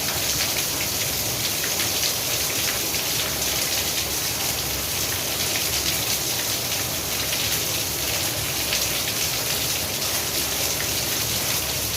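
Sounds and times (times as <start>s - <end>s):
rain pattering: 0.0s - 11.9s.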